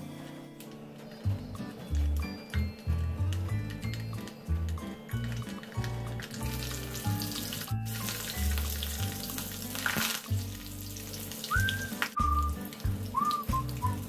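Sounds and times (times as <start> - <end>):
background music with bass line: 1.2 - 14.0
hot oil sizzling: 1.5 - 14.0.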